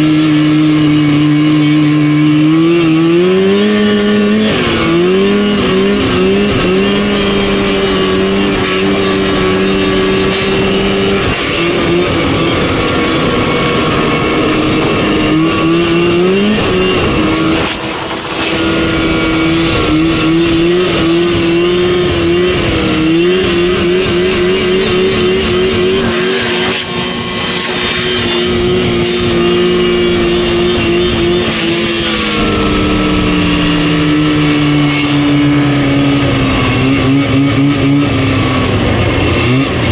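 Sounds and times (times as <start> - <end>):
snowmobile engine running hard: 0.0 - 39.9.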